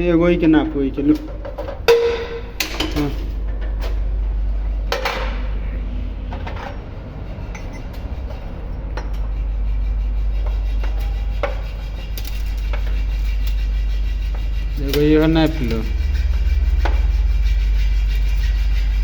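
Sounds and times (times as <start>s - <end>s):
steady low rumble: 0.0s - 10.4s, 11.8s - 19.0s.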